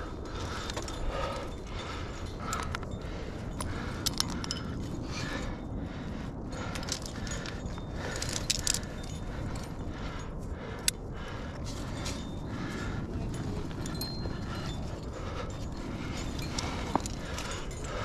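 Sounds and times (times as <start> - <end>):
climbing hardware jingling: 0.0 - 18.0
steady low rumble: 0.0 - 18.0.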